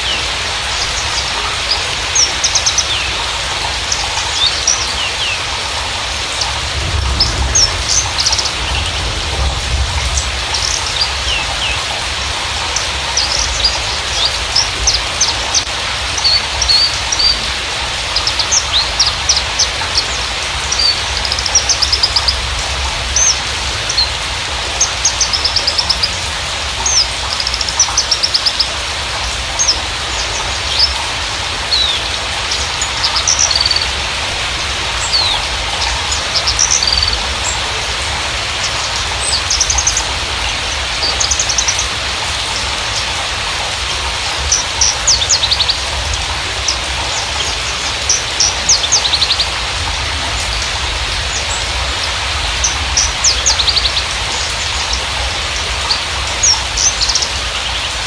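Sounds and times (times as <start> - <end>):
bird chirping and trilling: 0.0 - 43.1, 44.4 - 49.6, 51.3 - 58.0
steady hiss: 0.0 - 58.0.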